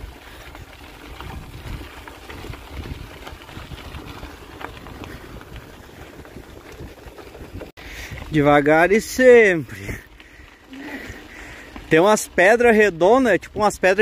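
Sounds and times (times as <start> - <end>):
wind rumbling on microphone: 0.0 - 11.9
bicycle tyres crunching on gravel: 0.0 - 14.0.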